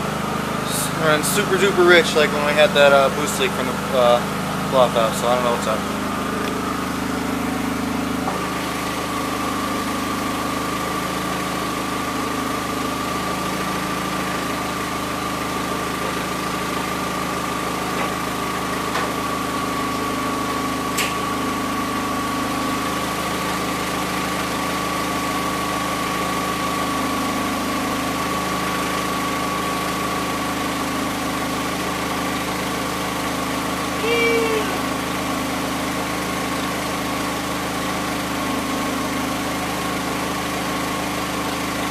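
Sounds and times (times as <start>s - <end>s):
car engine idling: 0.0s - 27.0s, 28.0s - 40.5s
turbo whine: 0.0s - 41.9s.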